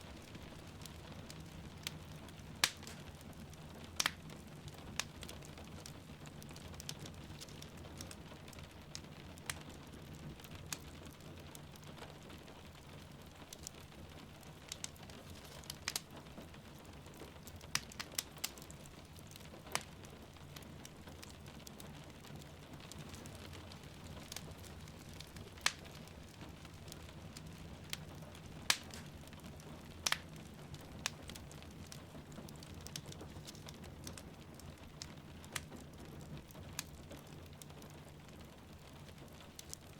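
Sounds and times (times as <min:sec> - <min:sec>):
rain pattering: 0:00.0 - 0:39.9
wood fire crackling and popping: 0:00.0 - 0:39.9.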